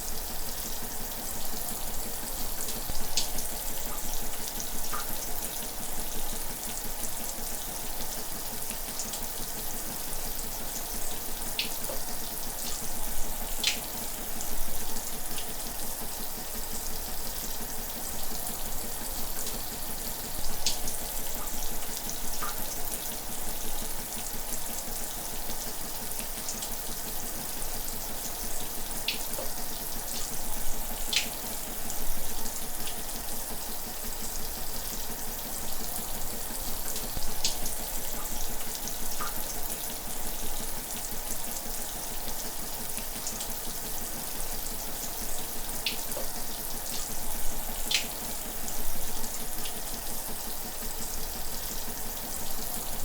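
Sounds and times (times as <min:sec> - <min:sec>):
shower running: 0:00.0 - 0:53.0.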